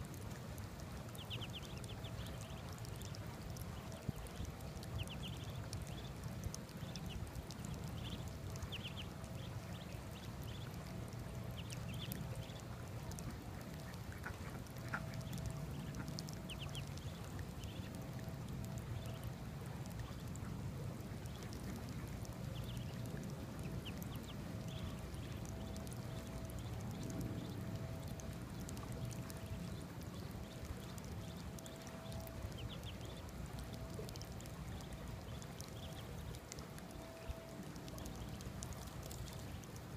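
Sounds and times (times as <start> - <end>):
ducklings peeping: 0.1 - 39.8.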